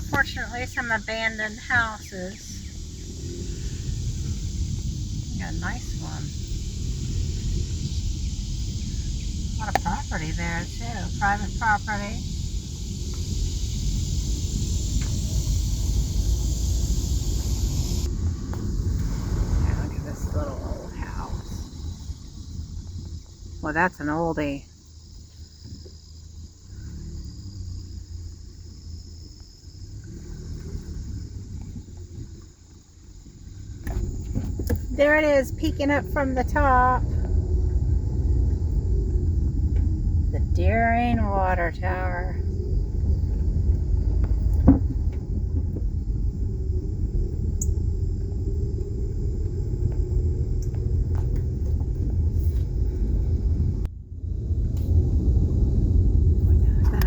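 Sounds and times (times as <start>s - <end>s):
car driving slowly: 0.0s - 57.0s
insects droning: 0.0s - 57.0s.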